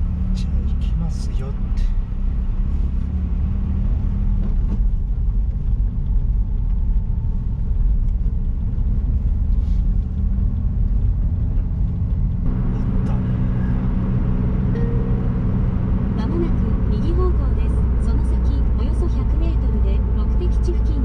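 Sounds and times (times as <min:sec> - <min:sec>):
car engine running: 0:00.0 - 0:21.0
road noise rumble: 0:00.0 - 0:21.0.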